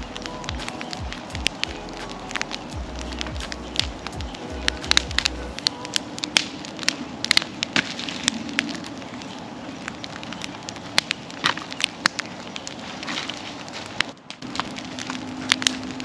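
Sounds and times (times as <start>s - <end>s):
bonfire crackling and popping: 0.0s - 16.0s
flames rushing: 0.0s - 16.0s.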